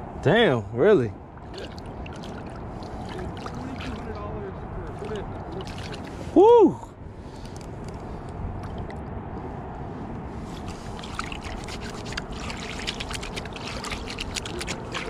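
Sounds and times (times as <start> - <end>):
river water lapping: 1.2 - 9.0, 10.3 - 15.0.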